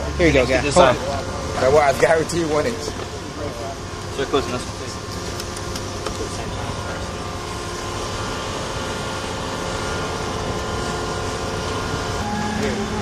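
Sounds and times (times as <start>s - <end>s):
machinery drone with hum: 0.0s - 13.0s.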